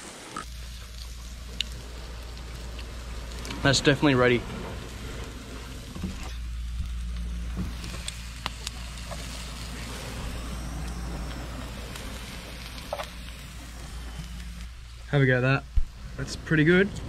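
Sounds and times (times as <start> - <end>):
seafood sizzling in oil: 0.1 - 16.0
steady low rumble: 0.4 - 17.0.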